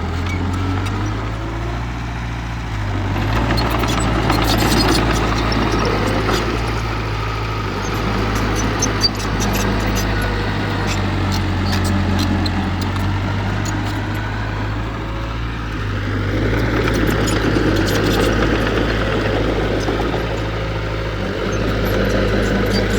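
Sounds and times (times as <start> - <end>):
heavy diesel engine running: 0.0 - 22.9.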